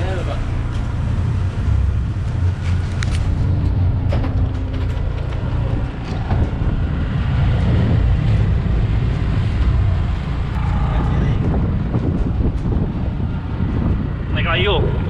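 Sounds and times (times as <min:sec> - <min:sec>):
outboard motors running hard: 0:00.0 - 0:15.0
wind and water rushing: 0:00.0 - 0:15.0.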